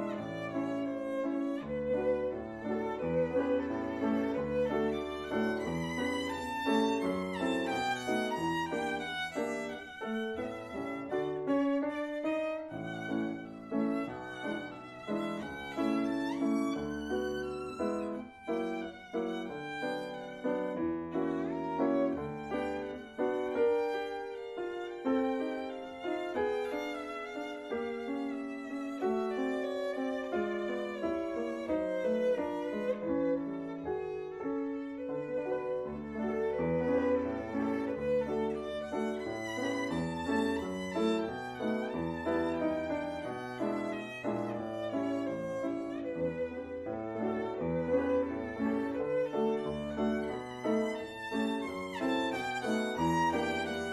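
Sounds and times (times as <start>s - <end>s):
violin melody with vibrato: 0.0s - 53.9s.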